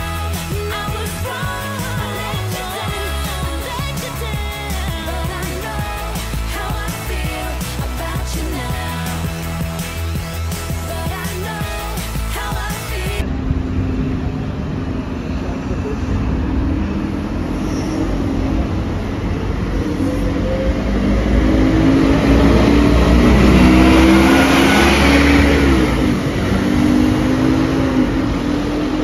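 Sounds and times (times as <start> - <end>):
bus diesel engine passing: 0.0 - 29.0
road traffic: 0.0 - 29.0.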